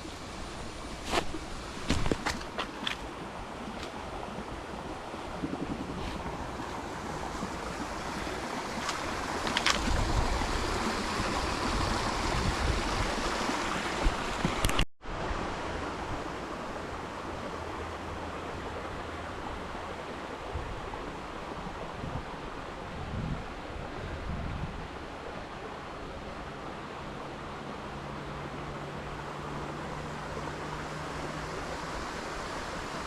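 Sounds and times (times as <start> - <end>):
wind rumbling on microphone: 0.0 - 26.7
creek water rushing: 0.0 - 33.0.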